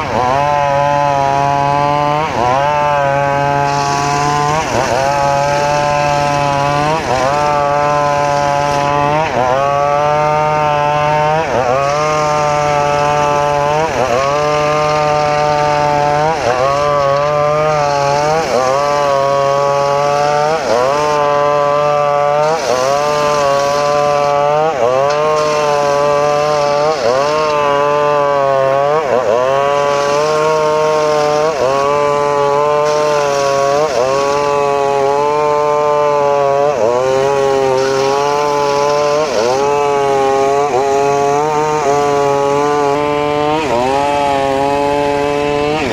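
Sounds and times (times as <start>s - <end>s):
circular saw blade whining: 0.0s - 45.9s.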